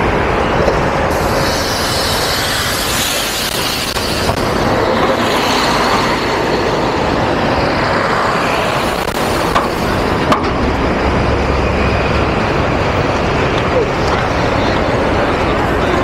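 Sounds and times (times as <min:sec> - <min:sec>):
buses driving past: 0:00.0 - 0:16.0.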